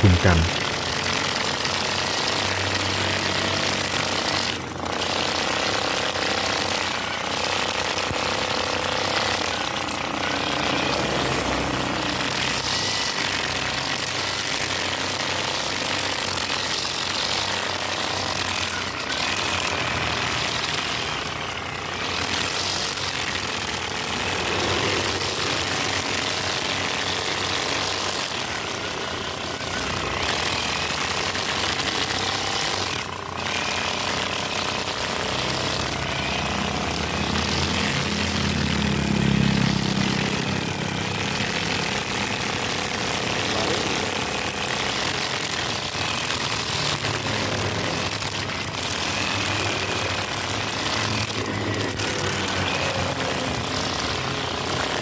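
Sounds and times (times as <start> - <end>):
grass cutter engine buzzing: 0.0 - 55.0.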